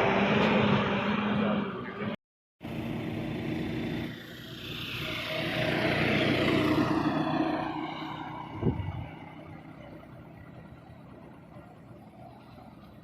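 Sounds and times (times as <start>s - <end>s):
bus passing by: 0.0s - 13.0s.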